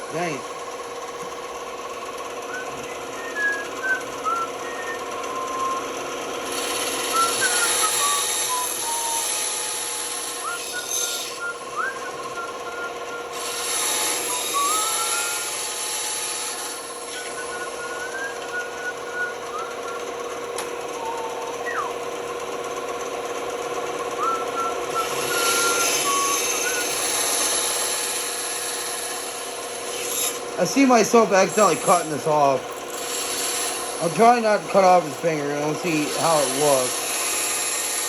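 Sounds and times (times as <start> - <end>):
band saw motor hum: 0.0 - 38.0
saw blade cutting wood: 5.5 - 38.0.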